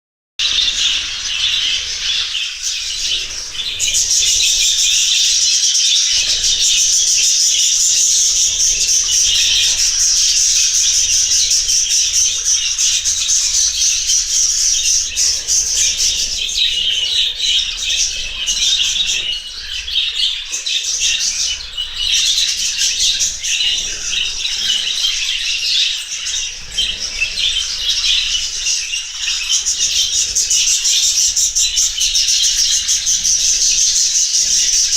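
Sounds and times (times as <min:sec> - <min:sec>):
birds chattering and squawking: 0:00.4 - 0:34.9.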